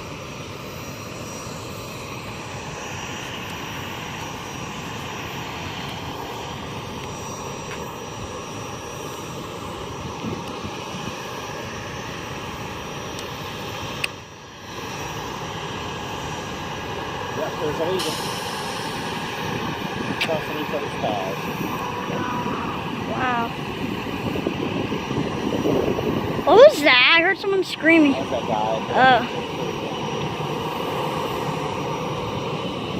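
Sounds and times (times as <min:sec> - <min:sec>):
jet engines droning: 0:00.0 - 0:32.9.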